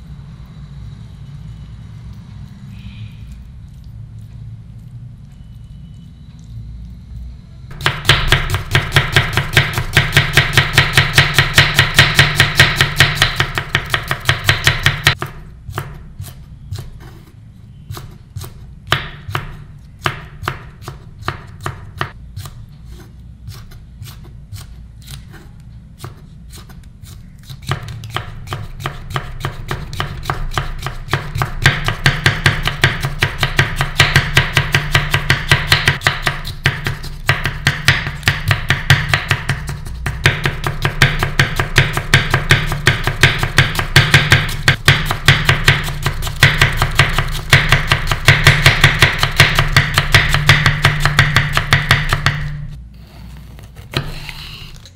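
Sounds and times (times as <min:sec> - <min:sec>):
knife chopping on cutting board: 0:07.7 - 0:17.3, 0:17.9 - 0:52.7, 0:53.7 - 0:54.4.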